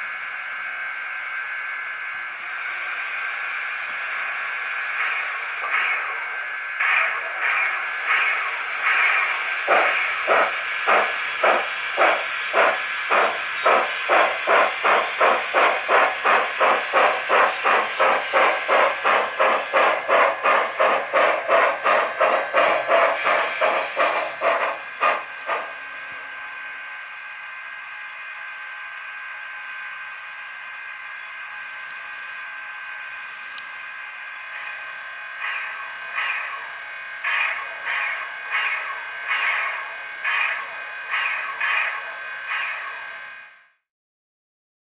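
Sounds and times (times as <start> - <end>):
steady steam hiss: 0.0 - 26.7, 33.0 - 43.3
steam locomotive exhaust chuffs: 0.0 - 43.7.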